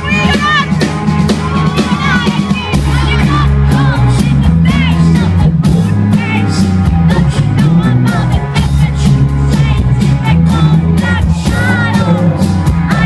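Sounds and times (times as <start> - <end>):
drum hits: 0.0 - 13.0
heavy bass line: 0.0 - 13.0
live rock band: 0.0 - 13.0
person singing: 1.4 - 13.0.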